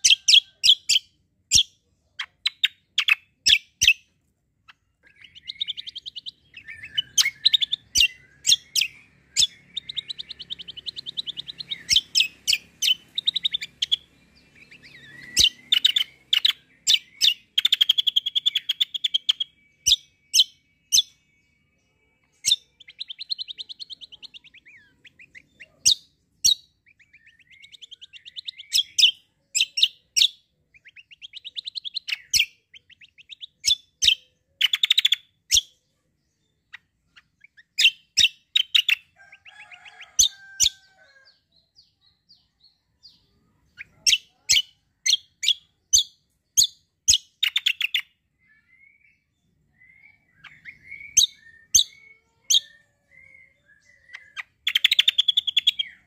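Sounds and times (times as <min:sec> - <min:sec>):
songbird singing trills: 0:00.0 - 0:56.0.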